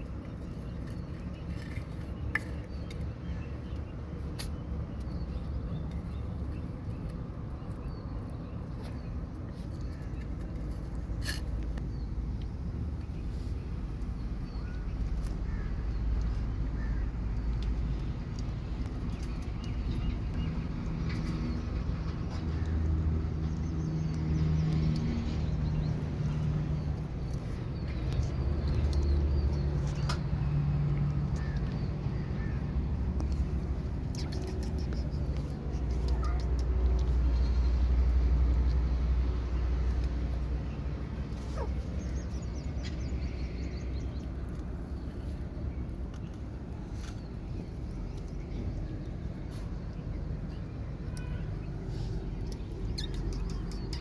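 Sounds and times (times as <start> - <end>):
engine humming: 0.0 - 54.0.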